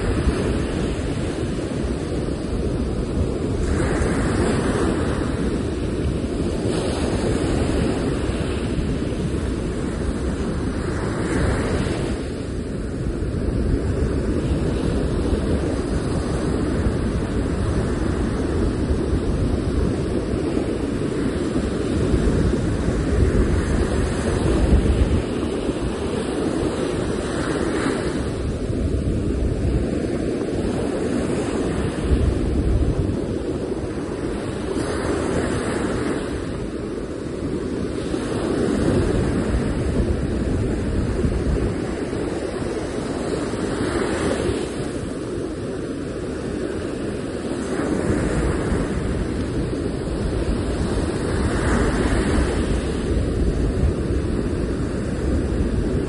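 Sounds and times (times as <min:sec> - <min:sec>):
sea waves breaking on sand: 0:00.0 - 0:56.0
wind buffeting microphone: 0:00.0 - 0:56.0.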